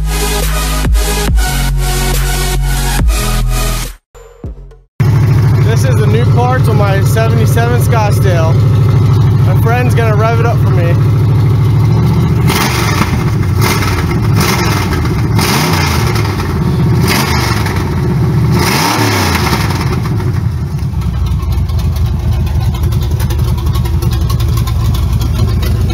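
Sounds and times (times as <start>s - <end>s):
pickup engine revving and idling: 5.0s - 25.9s.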